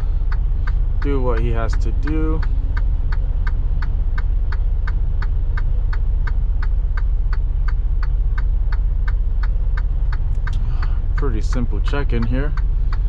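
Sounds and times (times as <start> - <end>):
diesel truck engine idling: 0.0 - 13.0
turn signal clicking: 0.0 - 13.0.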